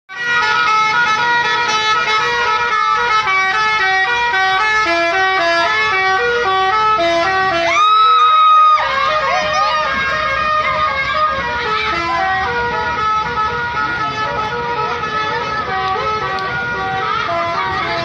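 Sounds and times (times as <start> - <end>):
musical bus air horn: 0.1 - 18.0.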